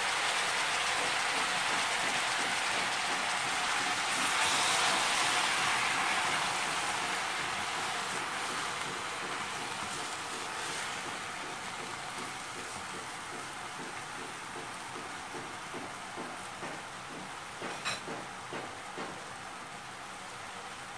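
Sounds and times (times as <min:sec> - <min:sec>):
vegetables sizzling in oil: 0:00.0 - 0:20.9.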